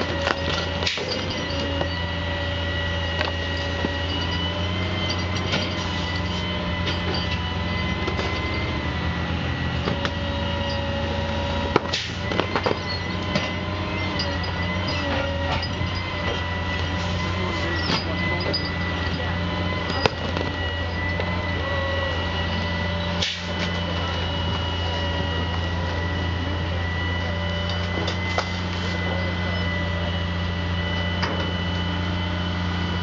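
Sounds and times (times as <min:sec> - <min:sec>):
truck engine and hydraulics droning: 0:00.0 - 0:33.0.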